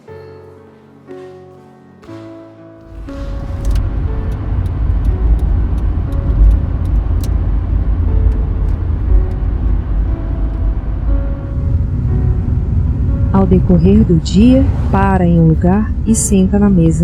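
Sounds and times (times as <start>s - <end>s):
low road rumble: 2.8s - 17.0s.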